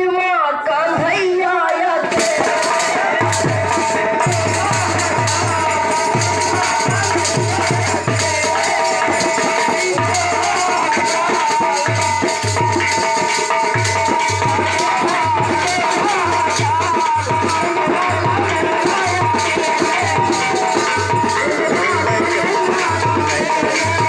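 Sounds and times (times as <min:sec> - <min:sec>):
voices singing into microphones: 0:00.0 - 0:24.0
hand drums beating: 0:00.9 - 0:24.0.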